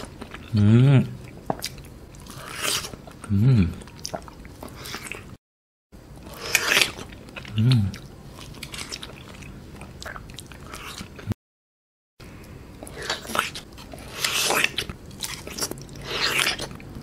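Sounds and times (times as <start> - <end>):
person chewing and sucking fruit: 0.0 - 5.4, 6.2 - 11.4, 12.4 - 16.9.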